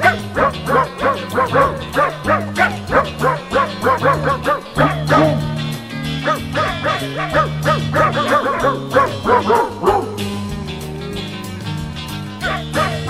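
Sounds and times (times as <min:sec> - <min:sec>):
background music: 0:00.0 - 0:13.0
puppies yipping and whimpering: 0:00.1 - 0:05.6, 0:06.2 - 0:11.5.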